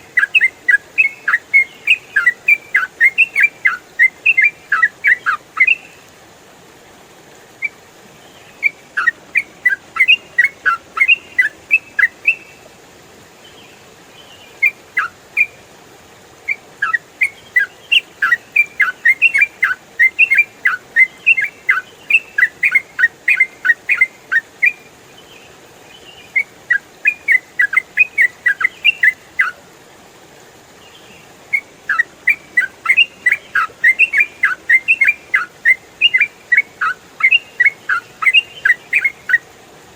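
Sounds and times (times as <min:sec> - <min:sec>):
bird singing whistled notes: 0:00.0 - 0:06.0, 0:07.6 - 0:12.6, 0:14.3 - 0:15.6, 0:16.5 - 0:25.4, 0:26.0 - 0:29.6, 0:30.9 - 0:39.4.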